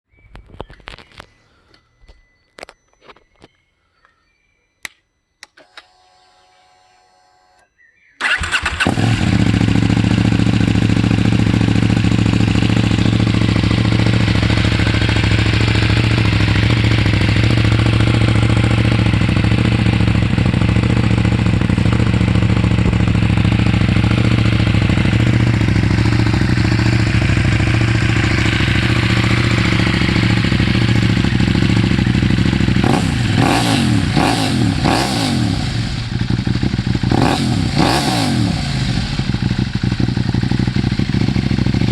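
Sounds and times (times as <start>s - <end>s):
motorcycle engine idling and revving: 8.2s - 41.9s.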